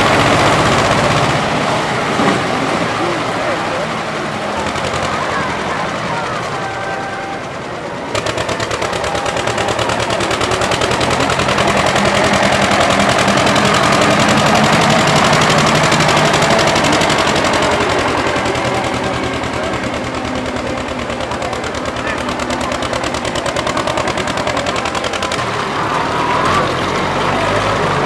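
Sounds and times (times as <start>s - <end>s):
tractor engine running at high revs: 0.0s - 28.0s.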